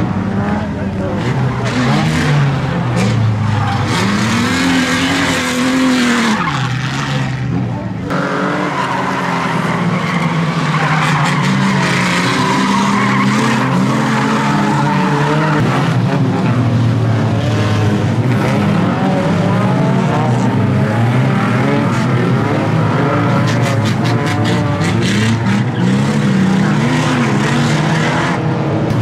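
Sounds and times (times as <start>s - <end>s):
race car engines revving: 0.0s - 29.0s
tyres skidding: 0.0s - 29.0s.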